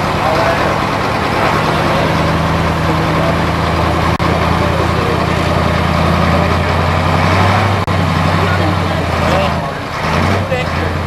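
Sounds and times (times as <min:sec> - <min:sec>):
truck diesel engine under load: 0:00.0 - 0:11.0.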